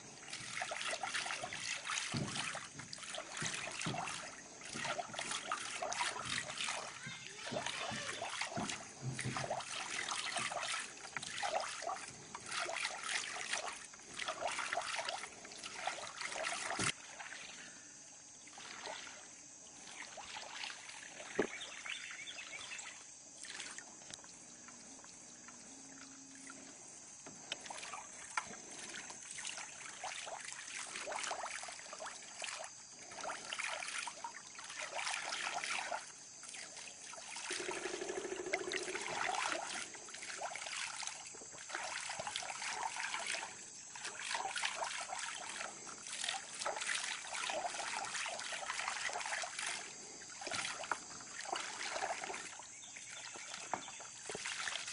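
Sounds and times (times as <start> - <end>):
shallow water sloshing: 0.0 - 54.9.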